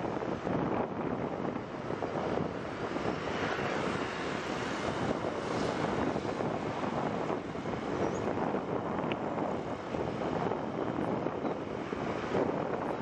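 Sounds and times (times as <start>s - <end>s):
vehicle engine noise: 0.0s - 13.0s
wind buffeting microphone: 0.0s - 13.0s.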